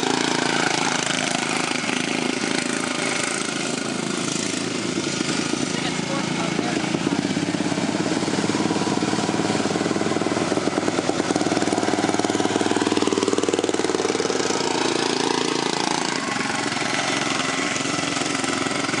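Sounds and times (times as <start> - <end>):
lawn mower engines running: 0.0 - 19.0.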